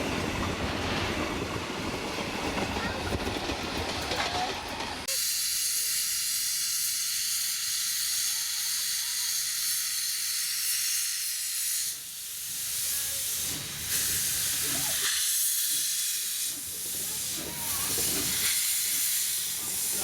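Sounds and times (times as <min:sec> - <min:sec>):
steam locomotive venting steam: 0:00.0 - 0:20.0.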